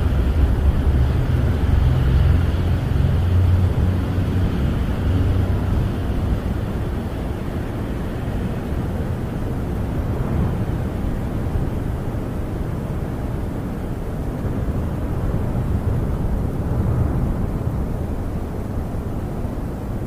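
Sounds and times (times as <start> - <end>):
wind blowing against a camper: 0.0 - 20.0.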